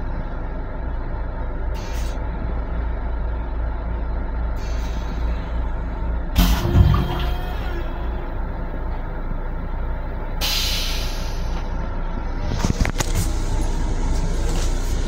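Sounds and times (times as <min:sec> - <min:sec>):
railcar hum and rumble: 0:00.0 - 0:15.0.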